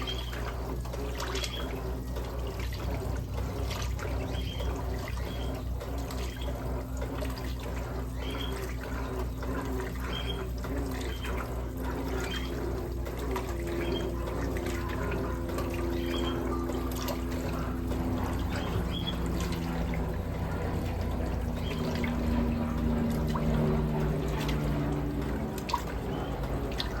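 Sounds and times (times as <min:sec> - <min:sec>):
washing machine motor hum: 0:00.0 - 0:27.0
water sloshing in washing machine: 0:00.0 - 0:27.0.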